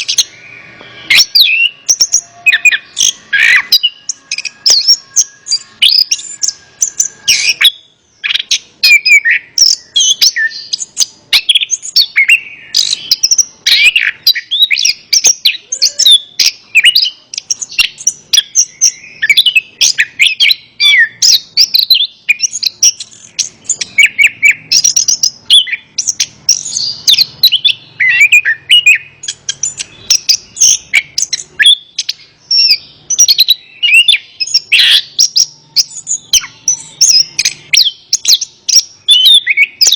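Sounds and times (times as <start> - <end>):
thrush singing whistled phrases: 0.0 - 39.9.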